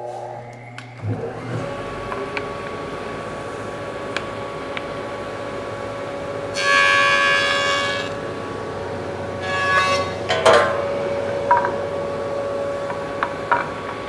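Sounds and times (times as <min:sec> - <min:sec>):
jointer humming: 0:00.0 - 0:14.0.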